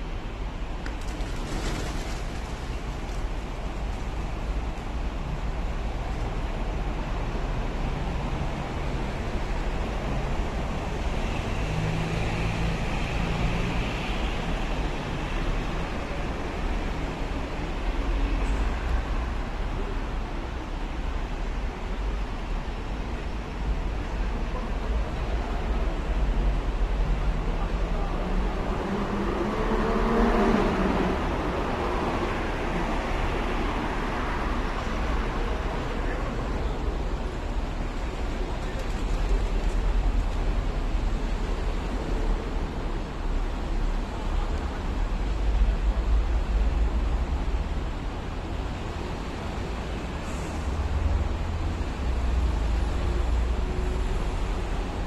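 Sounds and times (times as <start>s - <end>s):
street traffic rumble: 0.0s - 55.0s.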